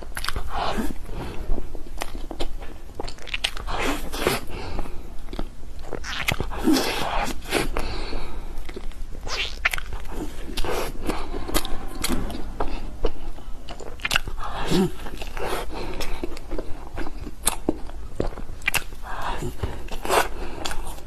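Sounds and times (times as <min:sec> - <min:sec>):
person chewing cake: 0:00.0 - 0:21.0
lip smacks: 0:01.9 - 0:21.0.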